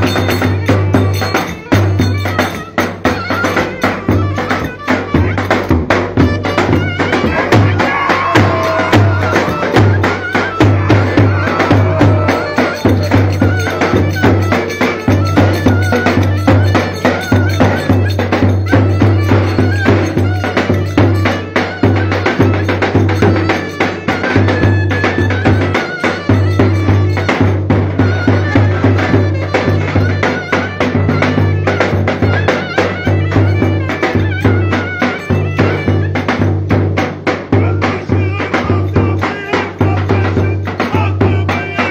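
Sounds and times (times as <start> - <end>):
wavering high melody: 0.0 - 36.4
fast dense percussion: 0.0 - 41.9.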